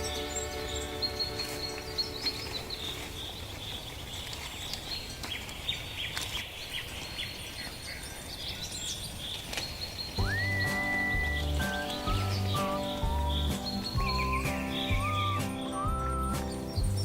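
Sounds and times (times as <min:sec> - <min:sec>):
rural background hiss: 0:00.0 - 0:17.0
small birds chirping: 0:00.0 - 0:17.0.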